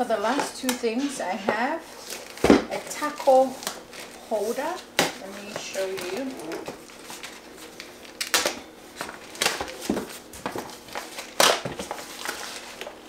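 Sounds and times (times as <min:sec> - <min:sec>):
packaging rustling and crinkling: 0:01.8 - 0:13.0.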